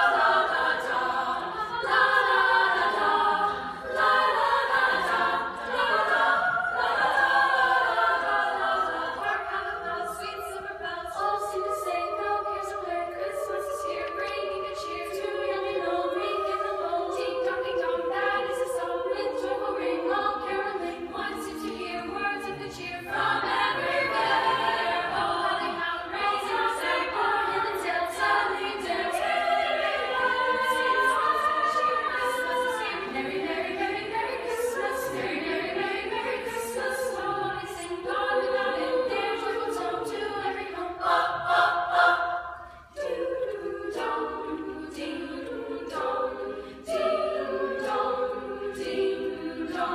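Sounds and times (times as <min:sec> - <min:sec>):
women's choir singing: 0:00.0 - 0:49.9.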